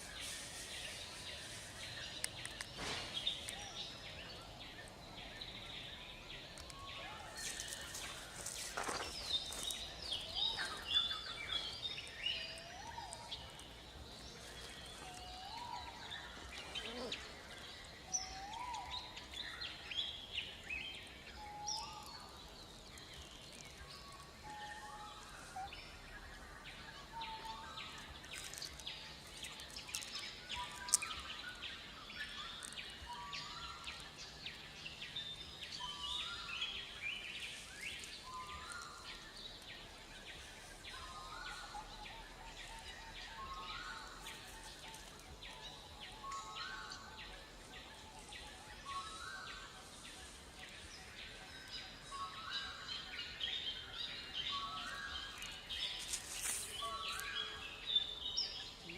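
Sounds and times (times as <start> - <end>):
birds chirping and whistling: 0.0 - 58.9
faint steady background noise: 0.0 - 58.9.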